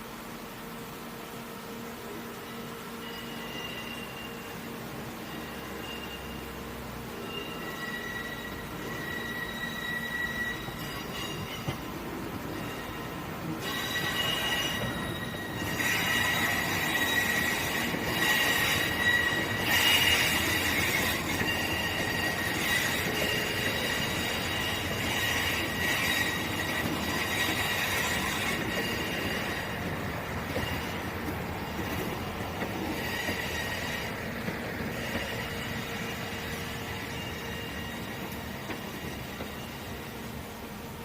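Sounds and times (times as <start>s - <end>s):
moving train rumble: 0.0s - 41.0s
train wheels squealing: 2.4s - 40.4s.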